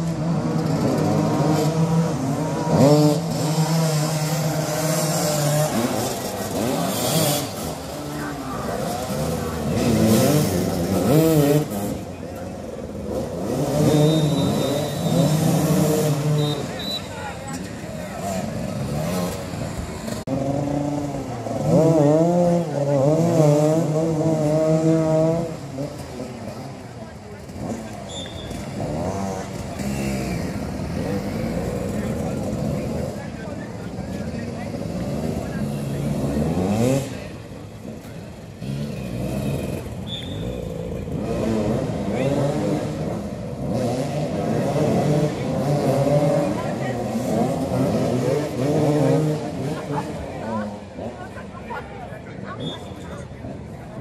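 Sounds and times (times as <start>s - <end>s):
engine revving: 0.0s - 12.1s, 12.8s - 16.8s, 18.1s - 26.6s, 27.4s - 51.2s
motorcycle engines running: 0.0s - 54.0s.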